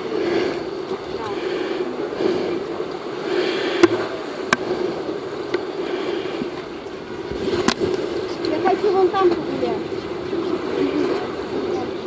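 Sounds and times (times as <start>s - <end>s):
muffled sea-shore water: 0.0s - 12.0s
steady low hum: 0.0s - 12.0s.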